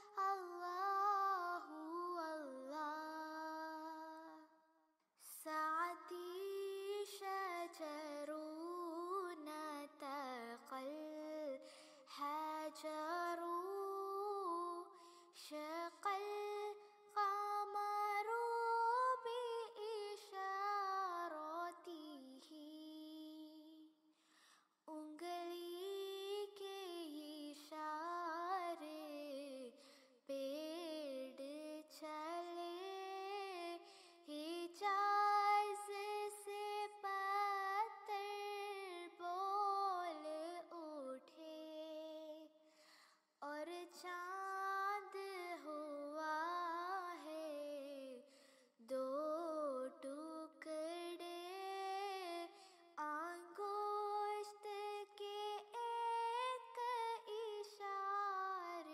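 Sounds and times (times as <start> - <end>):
woman singing slow melody: 0.0 - 4.5, 5.3 - 24.0, 24.9 - 42.5, 43.4 - 58.9.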